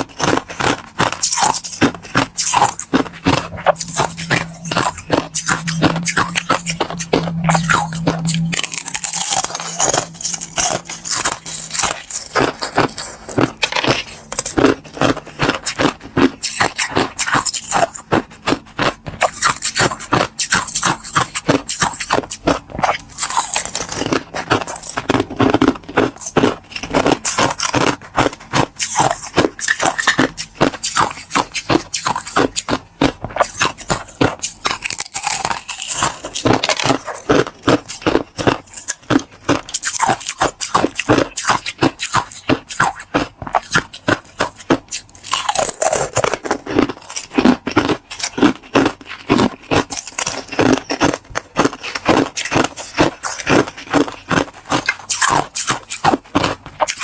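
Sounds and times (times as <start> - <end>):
chewing ice crunches: 0.0 - 57.0.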